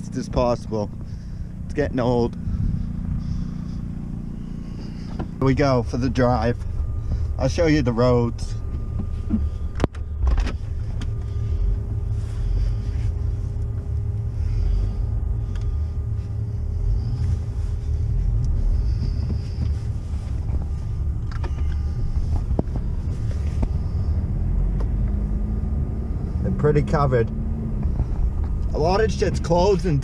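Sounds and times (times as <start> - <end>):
engine and tyres rumbling: 0.0 - 30.0.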